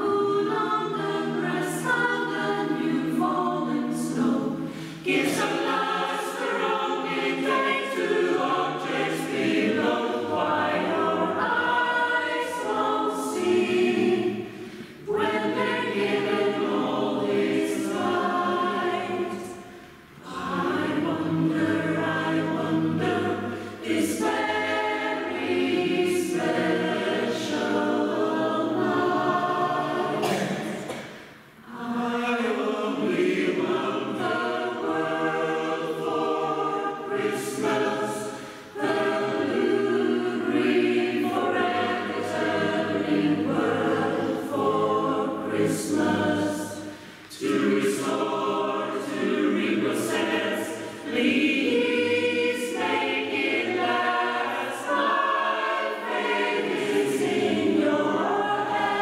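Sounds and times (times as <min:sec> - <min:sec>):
mixed choir singing a cappella: 0:00.0 - 0:59.0.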